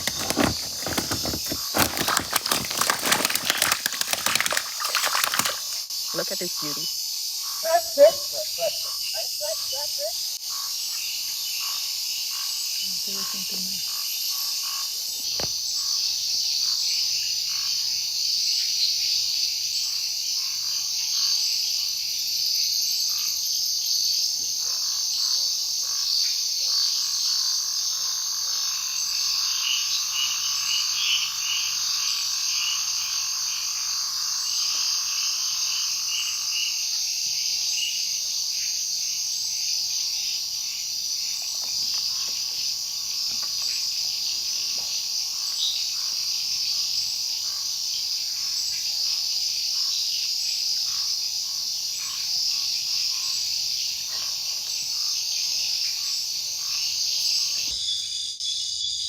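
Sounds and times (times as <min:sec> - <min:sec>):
frogs croaking: 0:00.0 - 0:59.0
insects trilling: 0:00.0 - 0:59.0.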